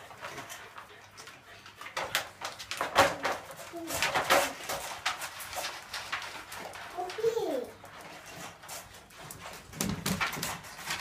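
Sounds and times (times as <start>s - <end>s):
metal dog bowl and crate rattling: 0.0s - 11.0s.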